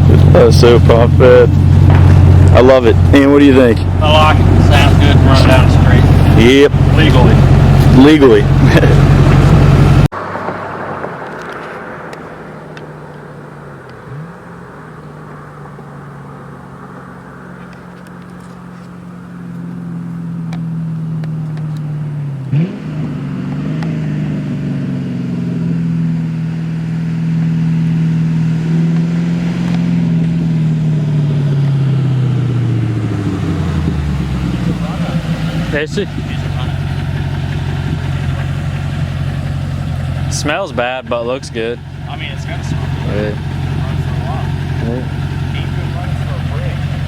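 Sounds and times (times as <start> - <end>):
car engine on open exhaust: 0.0 - 47.0.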